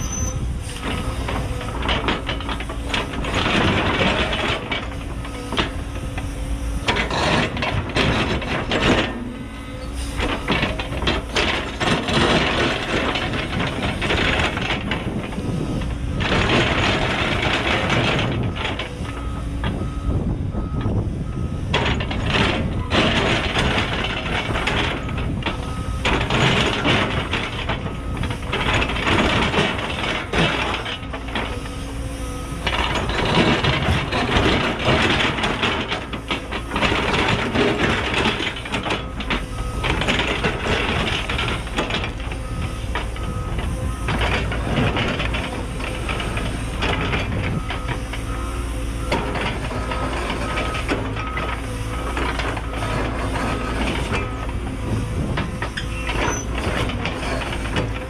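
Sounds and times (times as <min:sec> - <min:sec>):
excavator diesel engine working: 0:00.0 - 0:58.0.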